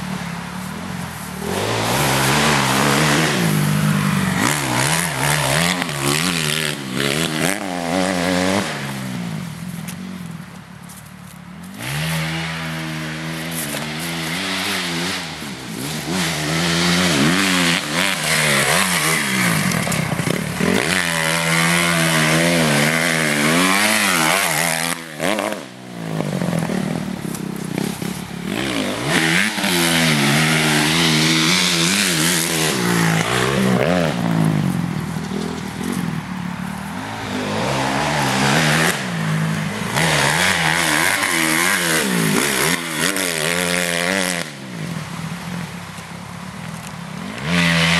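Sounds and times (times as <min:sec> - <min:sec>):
motocross bike engine revving: 0:00.0 - 0:10.3, 0:11.6 - 0:45.9, 0:47.1 - 0:47.9.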